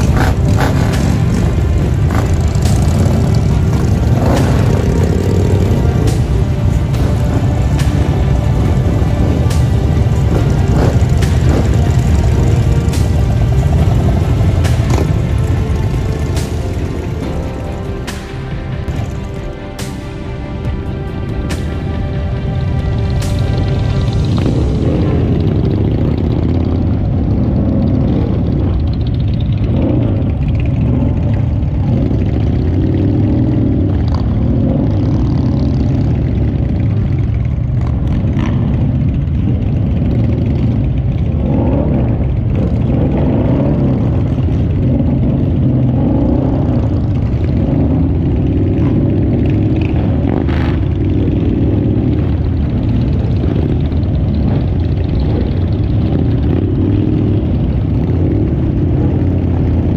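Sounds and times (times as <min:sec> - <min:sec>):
motorcycle engines running: 0:00.0 - 0:59.9.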